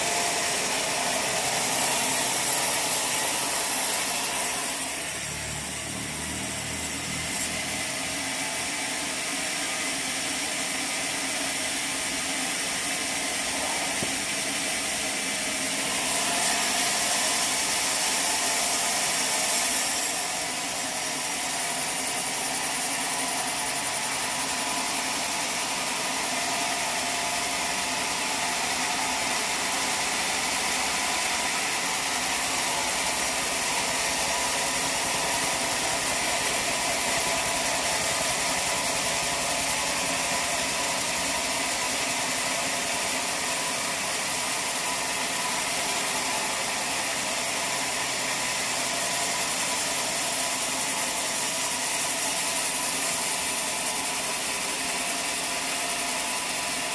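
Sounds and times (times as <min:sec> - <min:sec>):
sawmill machinery whine and rumble: 0:00.0 - 0:56.9.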